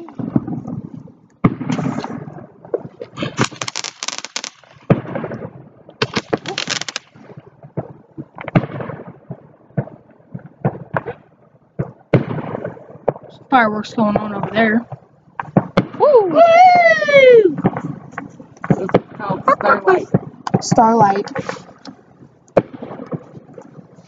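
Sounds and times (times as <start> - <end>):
fireworks bangs and pops: 0.0 - 24.0
fireworks crackling bursts: 0.0 - 24.0.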